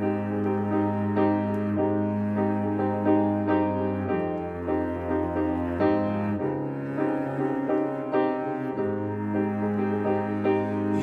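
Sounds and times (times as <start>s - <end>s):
deep piano bass notes: 0.0s - 11.0s
slow piano chords: 0.0s - 11.0s.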